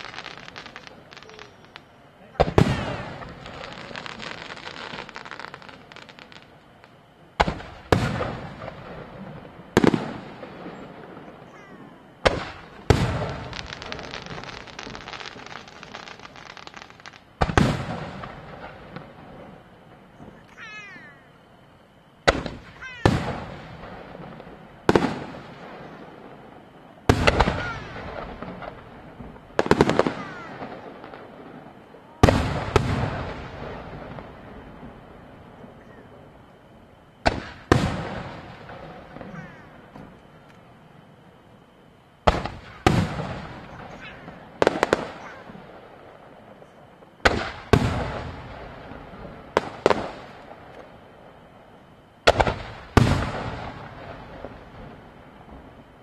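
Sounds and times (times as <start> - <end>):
firework shells booming: 0.0 - 21.3, 22.0 - 40.7, 42.2 - 51.5, 52.2 - 56.0.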